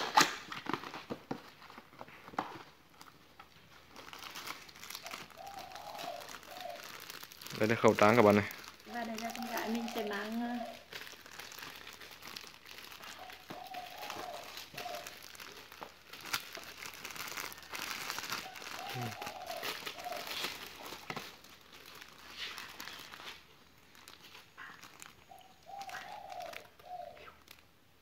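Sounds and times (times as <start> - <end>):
plastic bag crinkling: 0.0 - 27.7.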